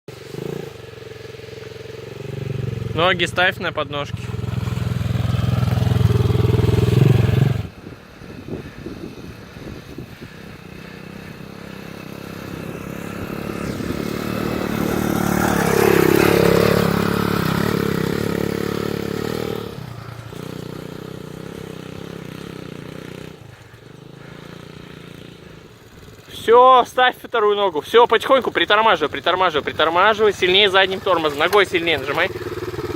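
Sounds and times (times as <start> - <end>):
small motorcycle engine running: 0.1 - 32.9.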